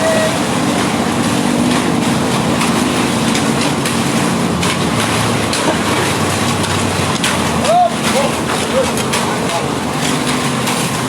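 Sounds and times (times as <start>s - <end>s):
large engine running: 0.0s - 11.0s
loud road noise: 0.0s - 11.0s.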